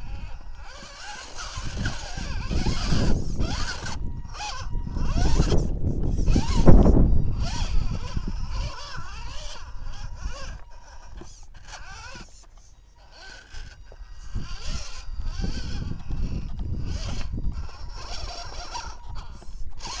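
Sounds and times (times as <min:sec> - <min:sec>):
electric motor whining: 0:00.0 - 0:20.0
tyres scraping on stone: 0:00.0 - 0:20.0.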